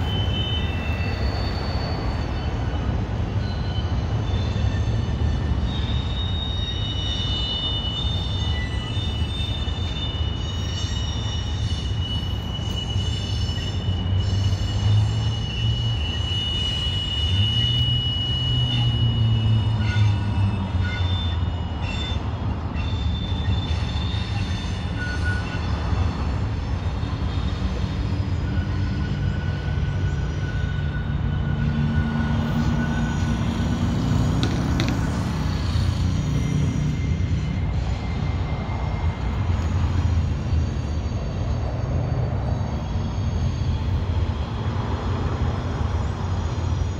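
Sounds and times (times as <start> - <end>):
high wheel squeal: 0.0 - 46.9
train wheels rumbling on rails: 0.0 - 46.9.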